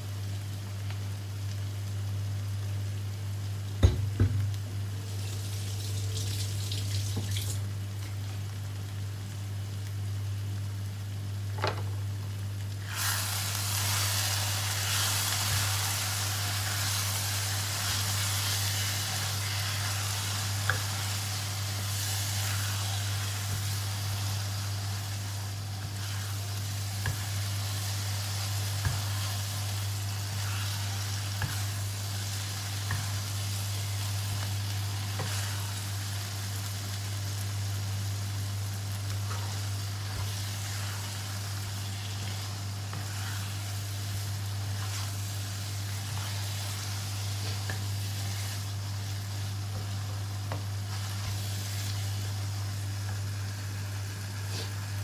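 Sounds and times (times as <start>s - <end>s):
food sizzling in a wok: 0.0s - 55.0s
steady low hum: 1.9s - 55.0s.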